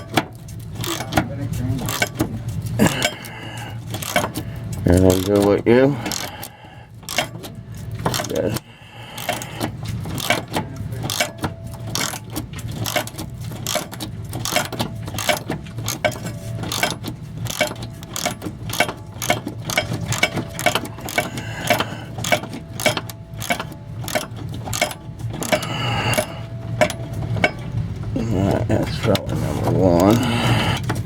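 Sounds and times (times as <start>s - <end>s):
socket ratchet clicking: 0.0s - 1.2s, 1.8s - 27.9s
steady low hum: 0.0s - 31.0s.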